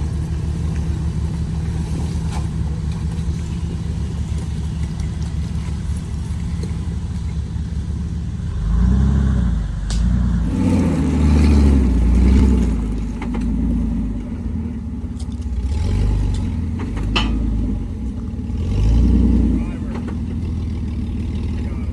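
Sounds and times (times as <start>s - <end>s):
off-road vehicle engine revving: 0.0s - 21.9s.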